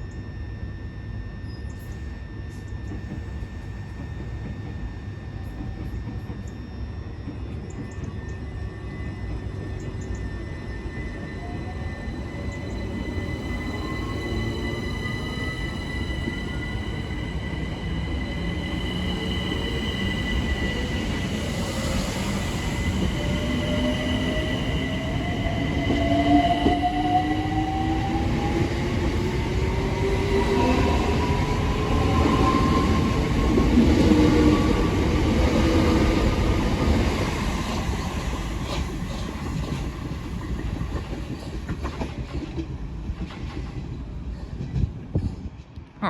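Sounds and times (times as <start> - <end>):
electric train motor whine: 0.4 - 41.1
wheels rumbling on rail: 1.4 - 46.0.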